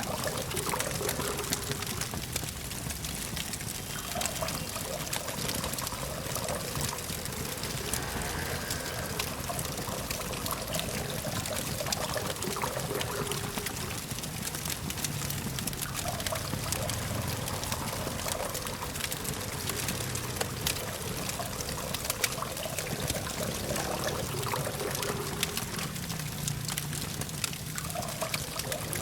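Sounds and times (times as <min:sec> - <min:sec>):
campfire crackling and popping: 0:00.0 - 0:29.0
distant traffic hum: 0:00.0 - 0:29.0.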